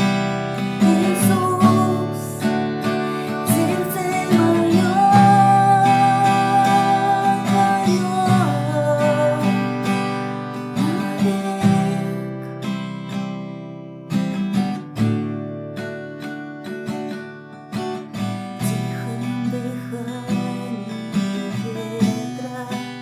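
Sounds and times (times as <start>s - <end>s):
acoustic guitar strummed and picked: 0.0s - 23.0s.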